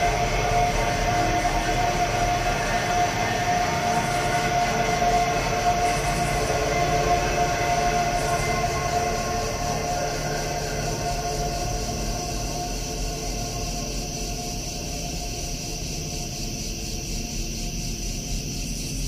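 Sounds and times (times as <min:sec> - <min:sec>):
ambient drone of held tones: 0:00.0 - 0:19.0.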